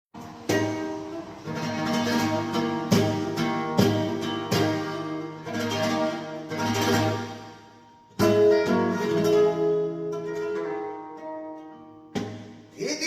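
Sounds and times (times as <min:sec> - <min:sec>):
flamenco guitar strummed chords: 0:00.2 - 0:13.0.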